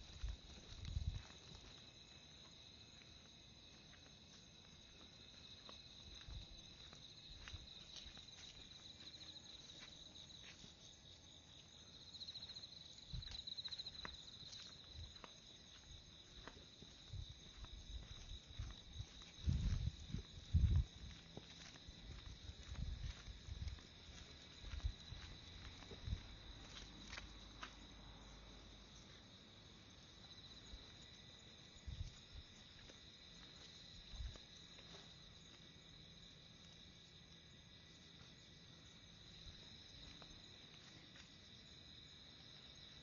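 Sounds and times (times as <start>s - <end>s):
soft footsteps: 0.0s - 28.1s, 29.0s - 36.9s, 38.1s - 43.0s
insects chirring: 0.0s - 43.0s.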